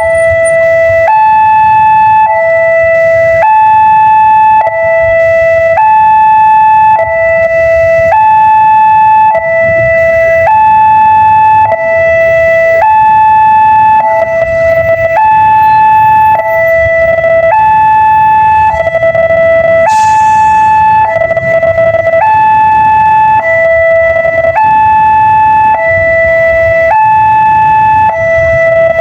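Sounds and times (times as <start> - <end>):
two-tone warning siren wail: 0.0 - 29.0.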